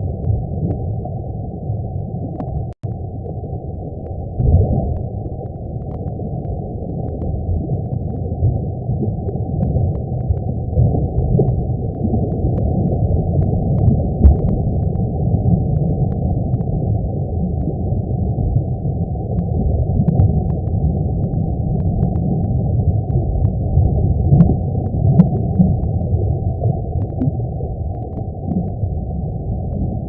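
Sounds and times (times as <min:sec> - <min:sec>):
deep steady rumble: 0:00.0 - 0:30.0
faint crackles: 0:00.0 - 0:30.0.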